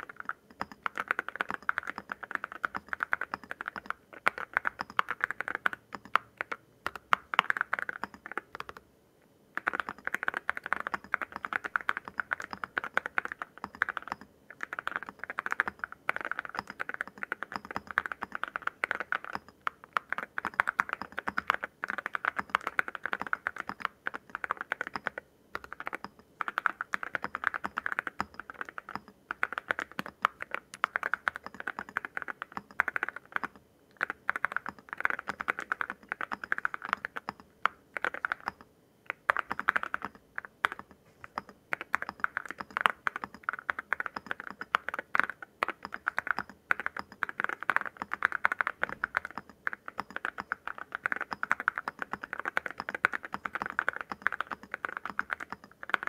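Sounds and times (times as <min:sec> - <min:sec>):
fast mechanical keyboard typing: 0:00.0 - 0:08.8, 0:09.6 - 0:56.0.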